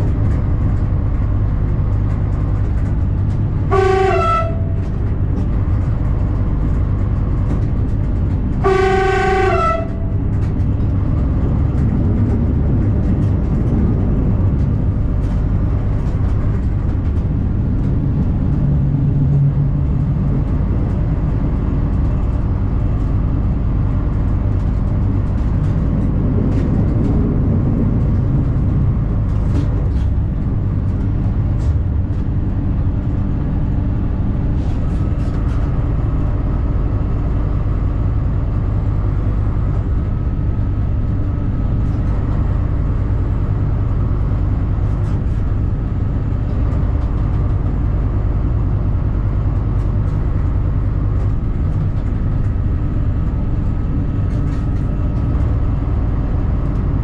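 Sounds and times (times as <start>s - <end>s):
diesel railcar engine drone: 0.0s - 57.0s.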